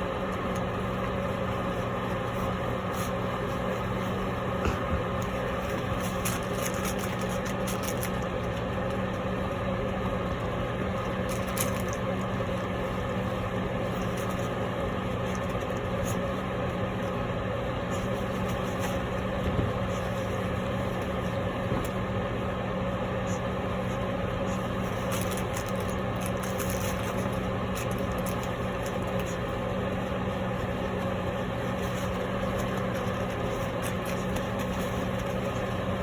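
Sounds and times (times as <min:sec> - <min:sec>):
low machine hum: 0:00.0 - 0:36.0.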